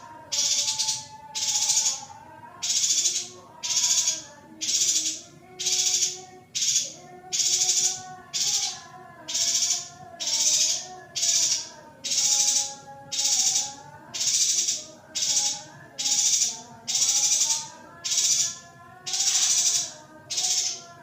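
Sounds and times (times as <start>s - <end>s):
bird harsh buzzy calls: 0.0s - 21.0s.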